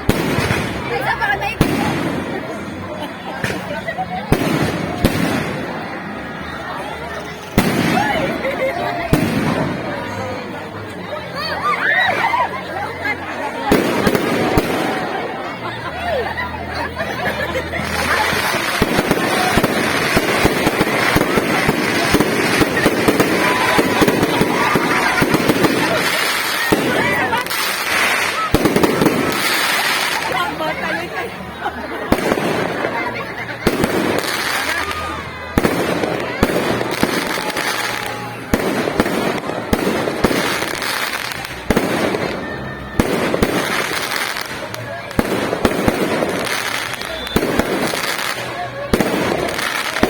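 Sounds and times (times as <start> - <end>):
fireworks bangs and crackles: 0.0 - 11.3, 12.9 - 15.9, 16.8 - 50.0.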